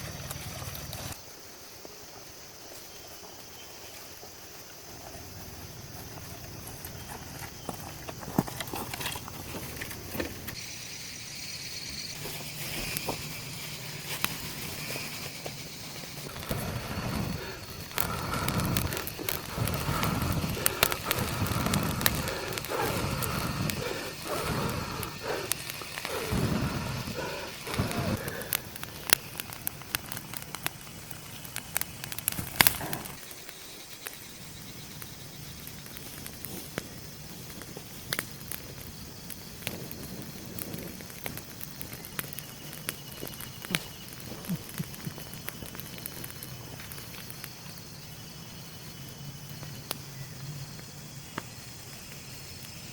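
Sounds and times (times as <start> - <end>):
campfire crackling and popping: 0.0 - 11.0, 12.0 - 52.9
night insects chirring: 0.0 - 52.9.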